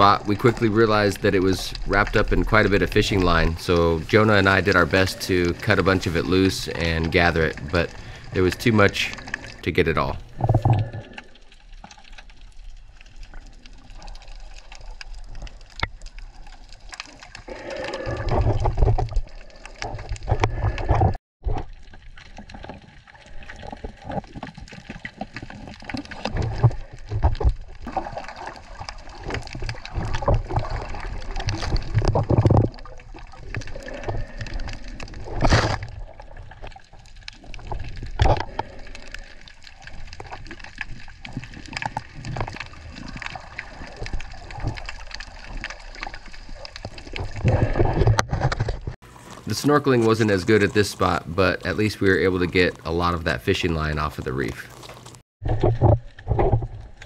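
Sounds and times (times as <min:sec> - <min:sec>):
water sloshing and gurgling: 0:00.0 - 0:57.0
water splashes: 0:00.0 - 0:57.0.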